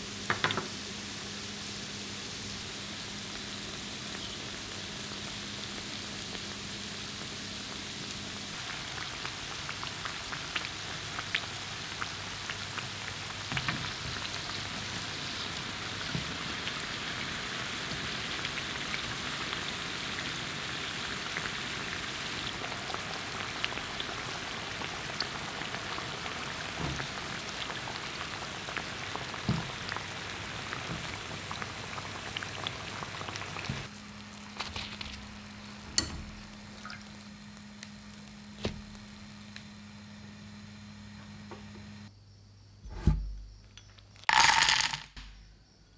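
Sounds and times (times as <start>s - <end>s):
deep-frying oil sizzling: 0.0s - 40.8s
oil popping and crackling: 3.3s - 39.7s, 43.9s - 45.0s.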